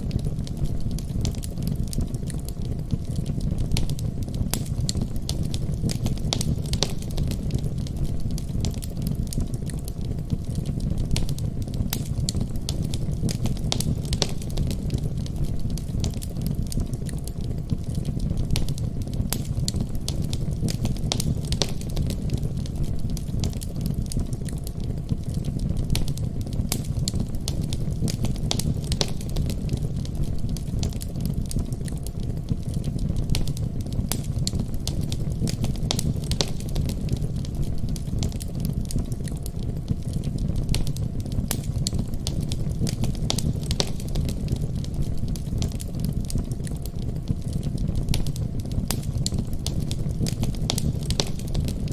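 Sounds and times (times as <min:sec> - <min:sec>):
fire pops and snaps: 0:00.0 - 0:51.9
fireplace fire crackling: 0:00.0 - 0:51.9
low fire rumble: 0:00.0 - 0:51.9.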